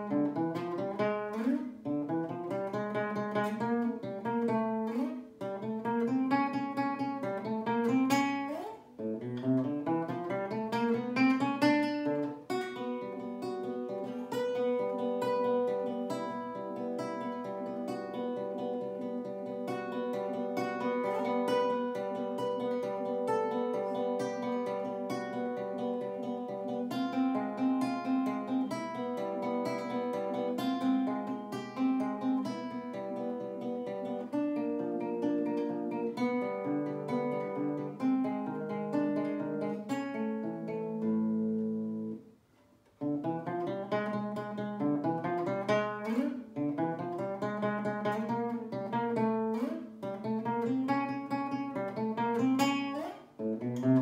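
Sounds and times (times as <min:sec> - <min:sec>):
classical guitar fingerstyle: 0:00.0 - 0:54.0.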